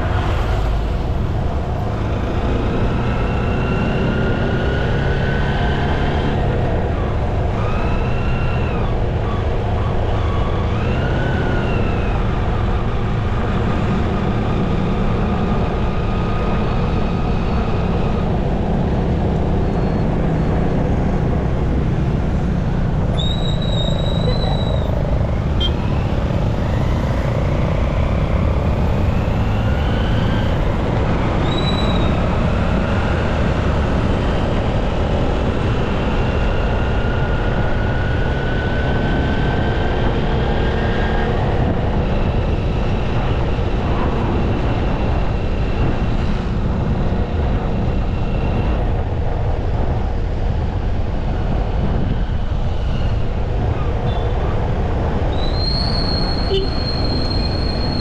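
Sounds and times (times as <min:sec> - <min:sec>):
traffic and road noise: 0:00.0 - 0:58.0
wind rumble on microphone: 0:00.0 - 0:58.0.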